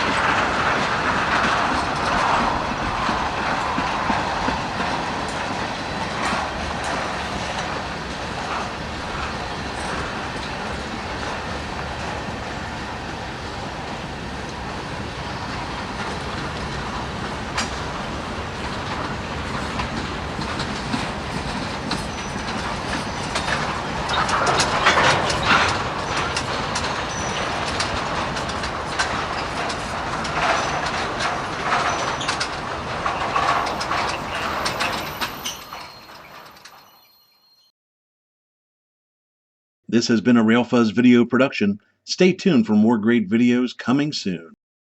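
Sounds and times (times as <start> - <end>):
wheels clicking over rail joints: 0.0 - 37.2
freight train cars rolling: 0.0 - 37.6.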